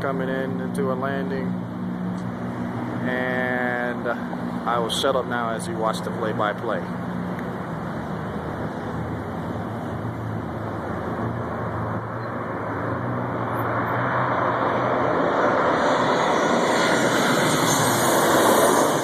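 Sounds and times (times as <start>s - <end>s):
jet airliner engine noise: 0.0s - 19.0s
steady low hum: 0.0s - 19.0s.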